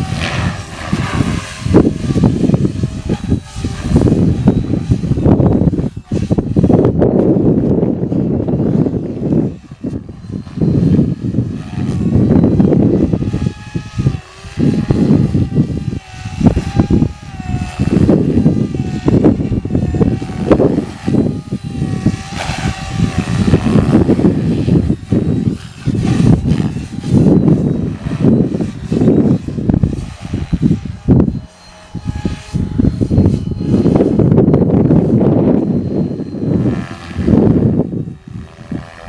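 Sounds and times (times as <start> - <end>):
rc helicopter rotor whine: 0.0 - 39.0
wind buffeting microphone: 0.0 - 39.0.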